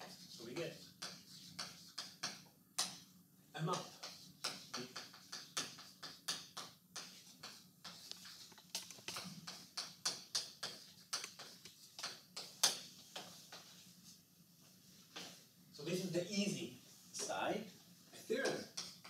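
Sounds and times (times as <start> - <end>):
chalk tapping and scraping on chalkboard: 0.0 - 15.5, 16.9 - 19.0.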